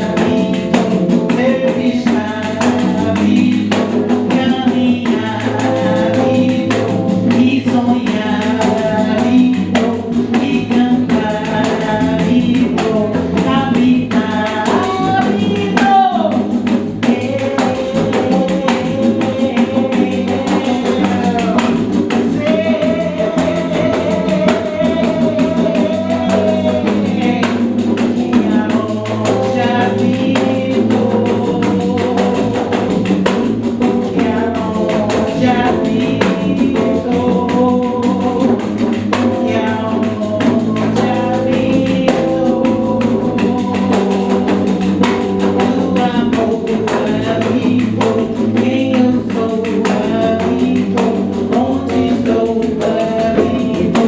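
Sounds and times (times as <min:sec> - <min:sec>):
frame drums with jingles: 0:00.0 - 0:54.0
person singing: 0:00.0 - 0:54.0.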